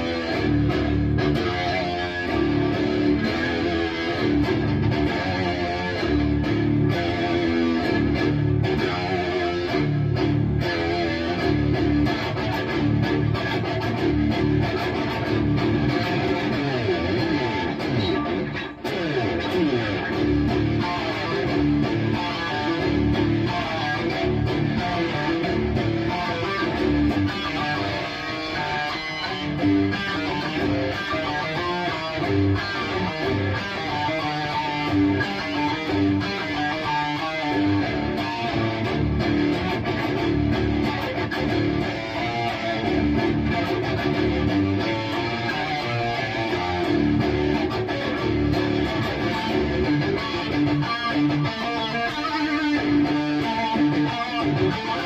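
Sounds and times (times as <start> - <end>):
distorted electric guitar riffing: 0.0 - 55.0.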